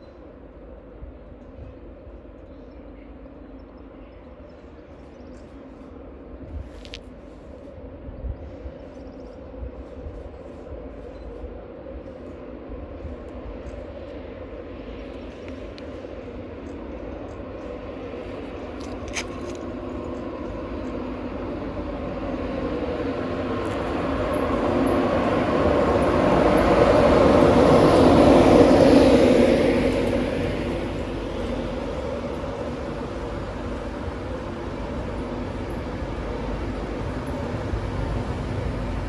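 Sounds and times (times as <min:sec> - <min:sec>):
rail noise: 0:00.0 - 0:39.0
train engine approaching: 0:00.0 - 0:39.0.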